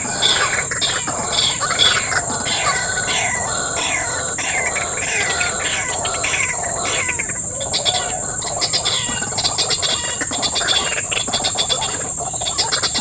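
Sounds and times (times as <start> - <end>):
rapid ticking call: 0.0 - 13.0.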